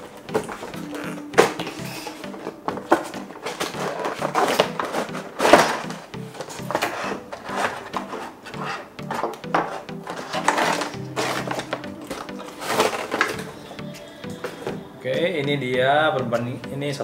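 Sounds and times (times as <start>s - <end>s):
plastic packaging crinkling: 0.0s - 13.8s
background music: 0.0s - 17.0s.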